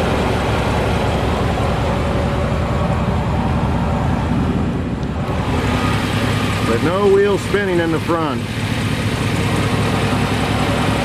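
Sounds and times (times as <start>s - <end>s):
truck engine and drivetrain drone: 0.0s - 11.0s.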